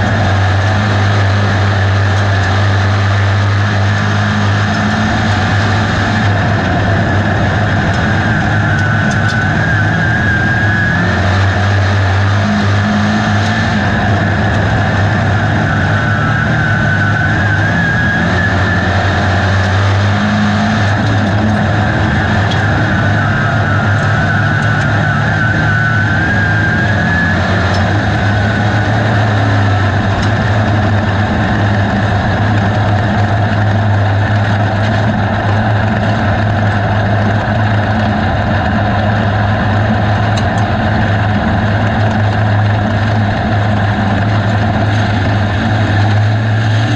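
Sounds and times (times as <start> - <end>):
high whine: 0.0 - 46.9
race car engine running hard: 0.0 - 46.9.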